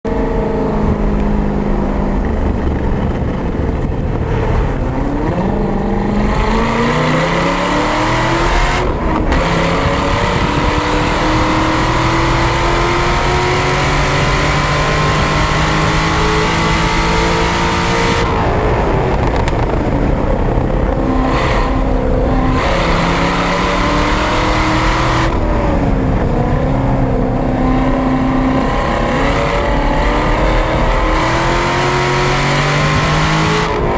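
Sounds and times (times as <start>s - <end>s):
wind and road noise: 0.0s - 33.9s
sports car engine at full throttle: 0.1s - 33.9s.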